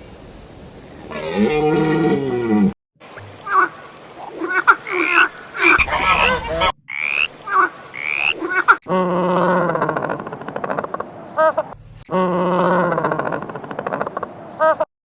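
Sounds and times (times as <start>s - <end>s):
animal calling: 1.0s - 14.8s.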